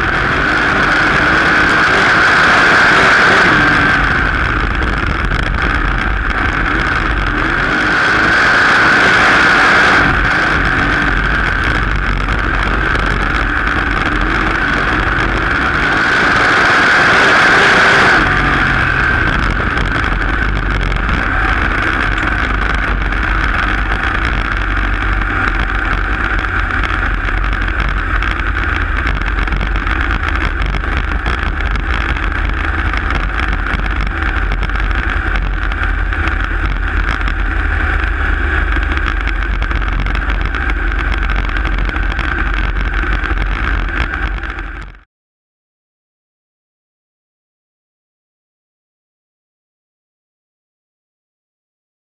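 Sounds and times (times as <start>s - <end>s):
race car engine drone: 0.0s - 45.1s.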